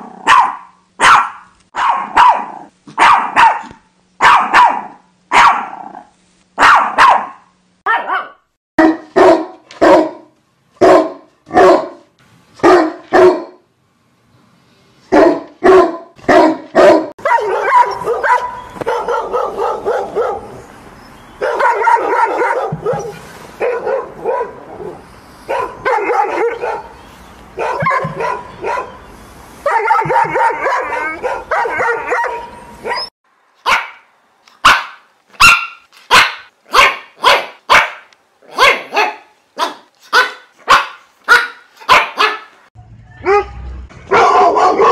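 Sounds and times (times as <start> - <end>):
dogs barking: 0.0 - 5.8, 6.6 - 13.6, 15.1 - 20.6, 21.4 - 27.0, 27.6 - 29.0, 29.6 - 42.6, 44.1 - 44.9.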